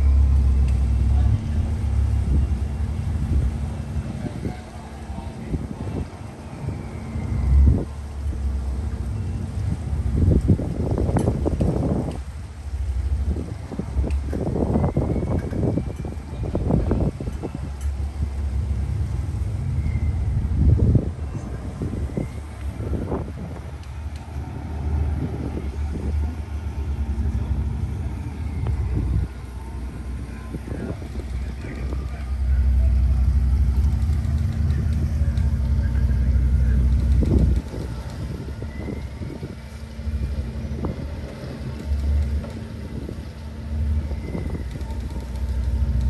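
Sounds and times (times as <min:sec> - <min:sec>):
low rumble of boat engines: 0:00.0 - 0:46.0
wind buffeting microphone: 0:00.0 - 0:46.0.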